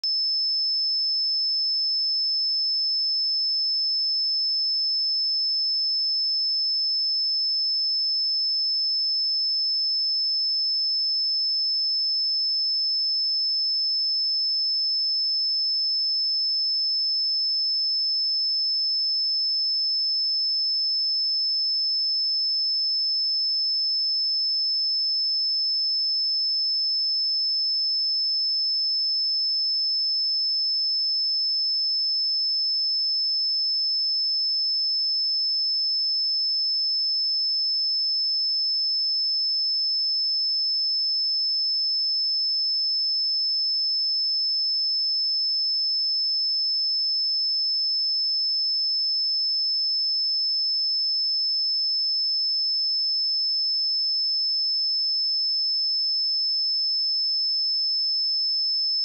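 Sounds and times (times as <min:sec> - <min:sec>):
high-pitched sine-wave test tone: 0:00.0 - 0:59.0.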